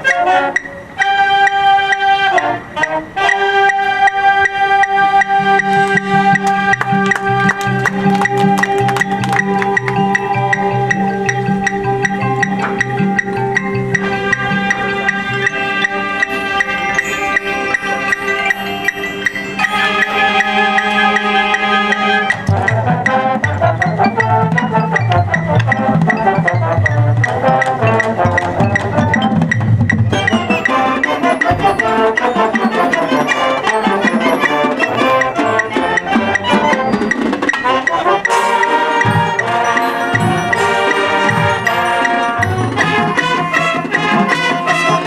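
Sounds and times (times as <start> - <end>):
marching band playing: 0.0 - 45.0
wood block strikes: 5.2 - 21.3, 22.2 - 45.0.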